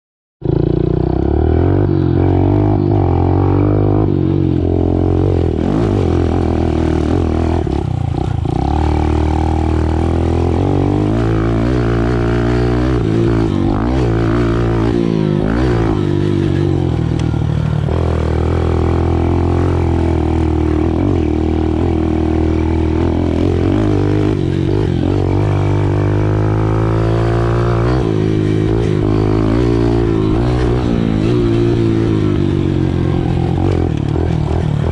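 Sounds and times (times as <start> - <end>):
dirt bike engine revving: 0.4 - 34.9.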